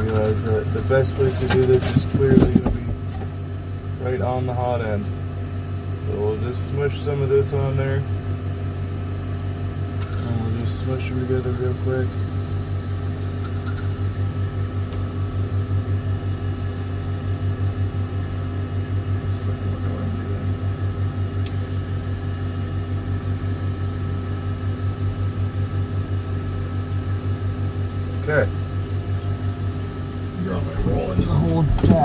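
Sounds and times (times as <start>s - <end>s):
cooling fans pulsing hum: 0.0s - 32.0s
faint steady whines: 0.0s - 32.0s.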